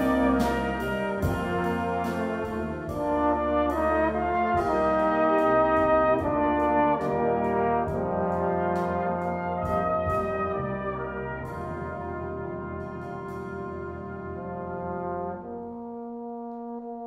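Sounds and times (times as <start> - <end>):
brass band playing chords: 0.0 - 17.0.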